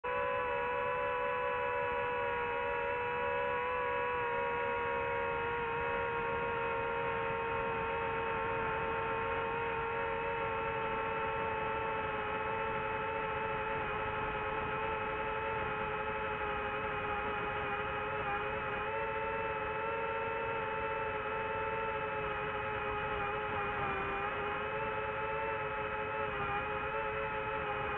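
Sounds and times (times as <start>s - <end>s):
hum of held tones: 0.0s - 27.9s.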